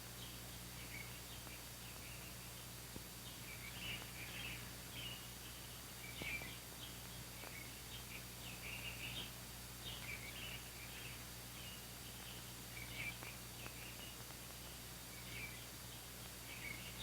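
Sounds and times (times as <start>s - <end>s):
film soundtrack hum and hiss: 0.0s - 17.0s
small birds chirping: 0.0s - 17.0s.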